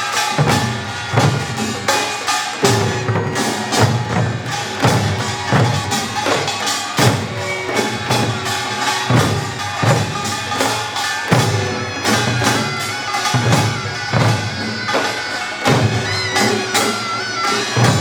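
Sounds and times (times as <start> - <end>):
drums and gongs beating: 0.0 - 18.0.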